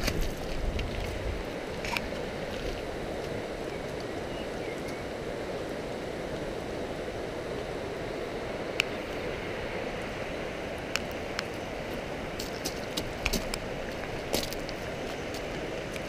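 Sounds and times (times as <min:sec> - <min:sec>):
river rushing over gravel: 0:00.0 - 0:04.6, 0:05.2 - 0:16.0
wind rumble on microphone: 0:00.0 - 0:16.0.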